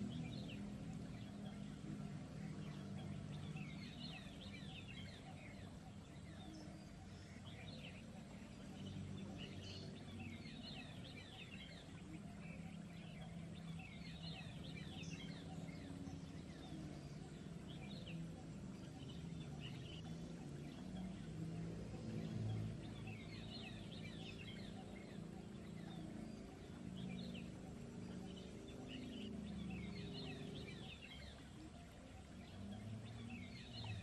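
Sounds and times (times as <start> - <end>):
faint low steady hum: 0.0 - 34.0
small birds chirping: 0.0 - 34.0.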